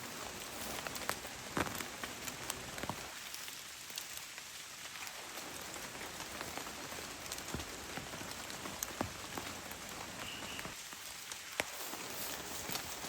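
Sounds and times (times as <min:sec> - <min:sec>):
rain falling steadily: 0:00.0 - 0:13.0
raindrops tapping close by: 0:00.0 - 0:13.0.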